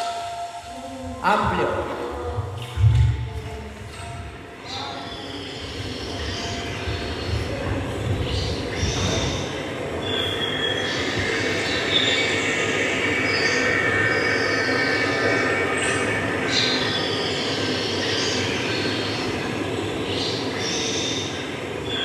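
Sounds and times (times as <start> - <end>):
train wheels squealing on rails: 0.0 - 1.0, 3.9 - 22.0
train rumble: 0.0 - 22.0.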